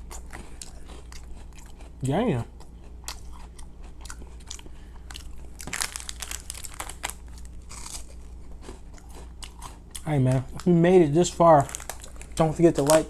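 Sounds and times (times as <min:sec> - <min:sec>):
crunching and chewing wafer: 0:00.0 - 0:13.0.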